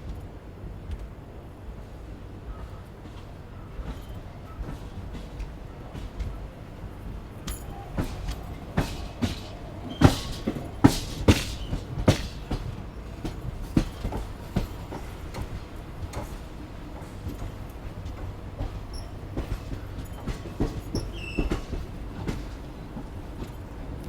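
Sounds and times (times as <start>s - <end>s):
train low rumble: 0.0s - 24.0s
wheels clacking over rail joints: 2.4s - 24.0s.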